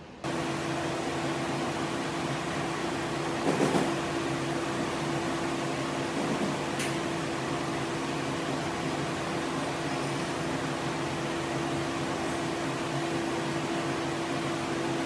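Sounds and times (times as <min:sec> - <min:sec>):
ventilation hum and hiss: 0:00.0 - 0:15.0.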